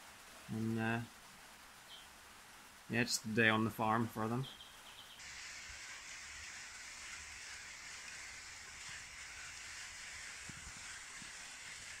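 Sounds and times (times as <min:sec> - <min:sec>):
rain on glass: 0:00.0 - 0:12.0.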